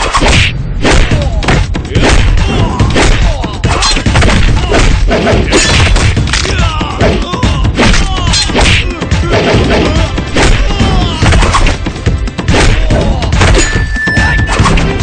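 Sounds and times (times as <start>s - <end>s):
punch and kick hits: 0.0s - 6.3s, 7.0s - 11.8s, 12.4s - 13.8s
background music: 0.0s - 15.0s
men shouting and grunting: 1.0s - 13.6s.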